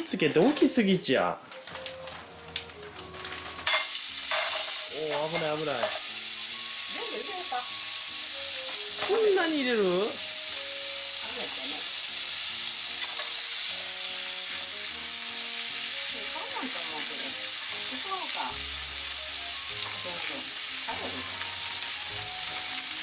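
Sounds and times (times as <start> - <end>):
bacon sizzling in oil: 1.4 - 23.0
chopsticks stirring in pan: 3.2 - 23.0.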